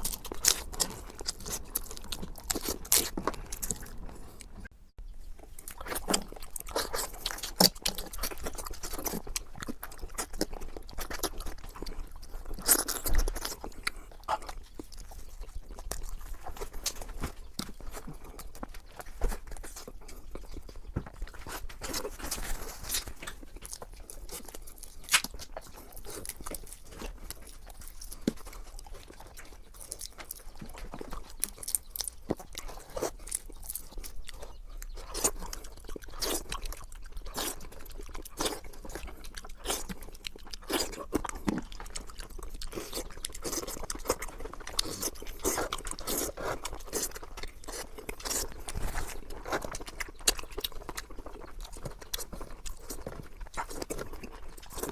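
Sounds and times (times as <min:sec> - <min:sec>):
chewing and crunching: 0:00.0 - 0:54.9
mouth clicks and smacks: 0:05.4 - 0:54.9.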